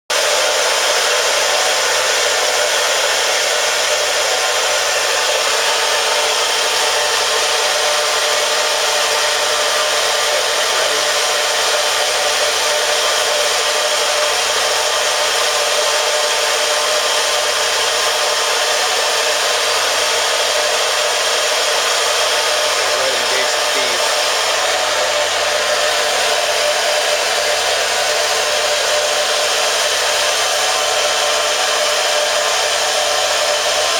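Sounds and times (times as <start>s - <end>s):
lathe running: 0.1s - 33.9s.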